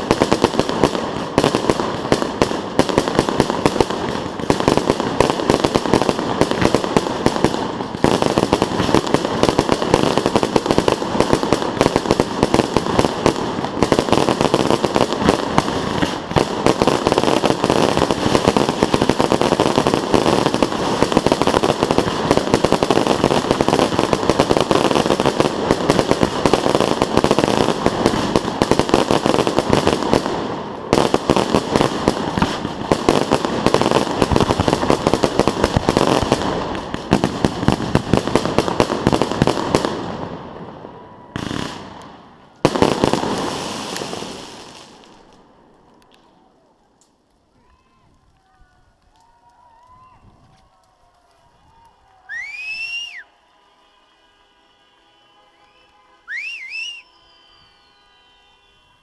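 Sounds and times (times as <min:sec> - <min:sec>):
firework bangs and crackling: 0:00.0 - 0:53.3, 0:55.6 - 0:59.0.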